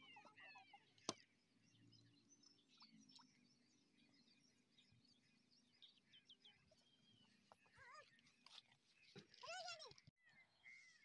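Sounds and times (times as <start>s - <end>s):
distant high bird chirps: 0.0s - 11.0s.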